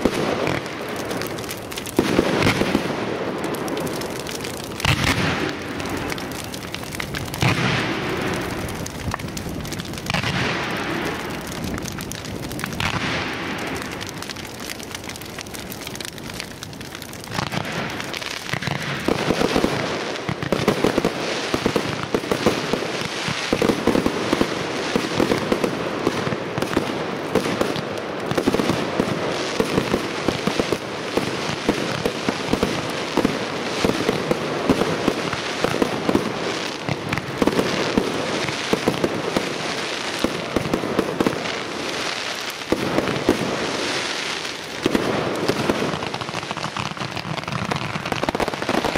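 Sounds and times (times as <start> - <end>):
rapid crackling and popping: 0.0 - 48.9.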